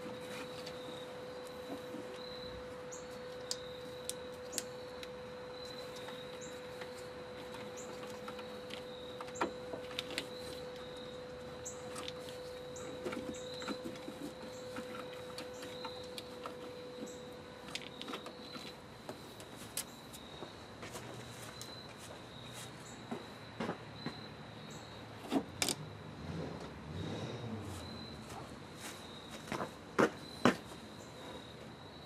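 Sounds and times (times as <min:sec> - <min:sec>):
steady hum: 0:00.0 - 0:26.7.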